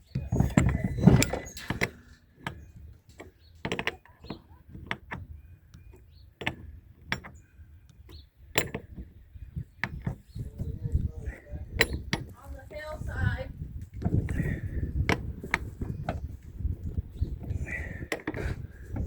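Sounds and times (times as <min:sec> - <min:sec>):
hard objects knocking and clanking: 0:00.1 - 0:07.4, 0:08.1 - 0:12.9, 0:13.9 - 0:19.0.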